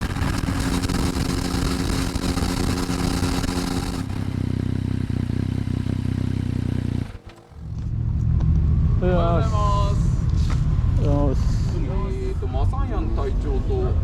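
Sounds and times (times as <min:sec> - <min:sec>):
motorcycle exhaust note: 0:00.0 - 0:13.0.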